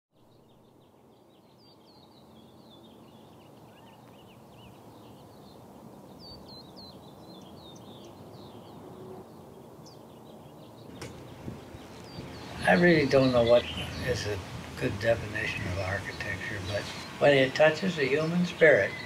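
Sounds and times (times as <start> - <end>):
low background noise: 0.2 - 19.0
small birds chirping: 0.2 - 19.0.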